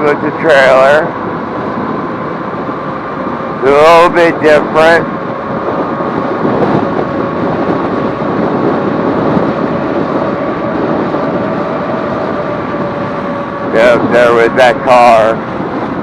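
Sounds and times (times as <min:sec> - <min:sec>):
faint steady motor whine: 0:00.0 - 0:16.0
tyre and wind noise: 0:00.0 - 0:16.0.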